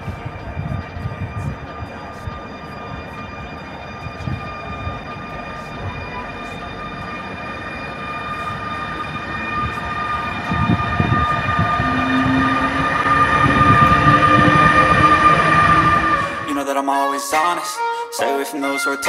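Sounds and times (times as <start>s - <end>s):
wheels rumbling on rails: 0.0s - 16.7s
electric locomotive whine: 0.0s - 19.0s.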